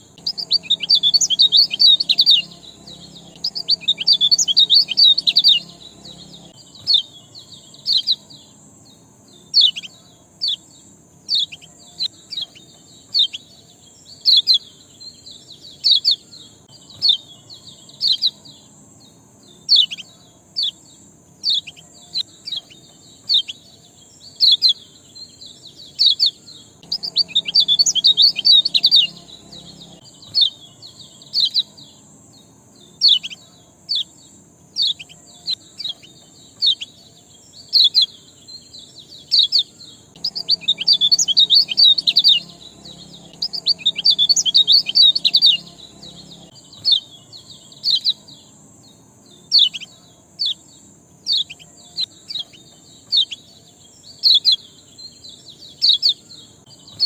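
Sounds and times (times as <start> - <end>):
bird chattering song: 0.0 - 57.0
bird chirping: 0.0 - 57.0.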